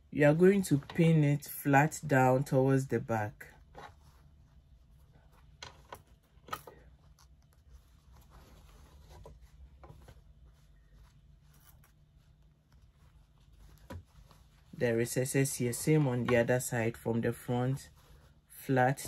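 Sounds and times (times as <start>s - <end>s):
fabric rustling: 3.4s - 19.0s.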